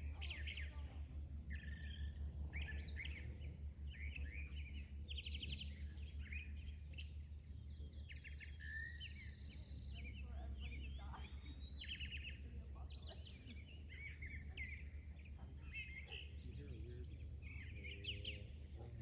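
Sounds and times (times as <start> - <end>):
songbirds chirping and trilling: 0.0 - 19.0
steady low rumble: 0.0 - 19.0.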